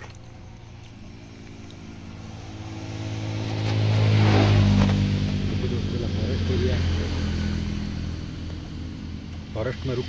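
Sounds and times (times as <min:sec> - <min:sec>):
road vehicle engine passing: 0:00.0 - 0:10.0.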